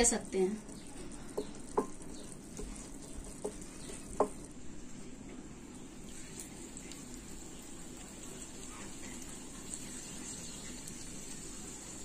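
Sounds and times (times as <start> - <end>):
pastries sizzling in hot fat: 0.0 - 12.0.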